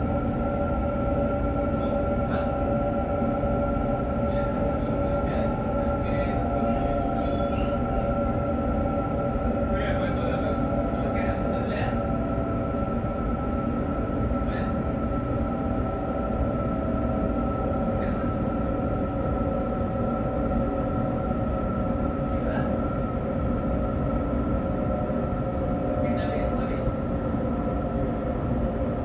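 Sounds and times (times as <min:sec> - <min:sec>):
electric train whine: 0:00.0 - 0:29.0.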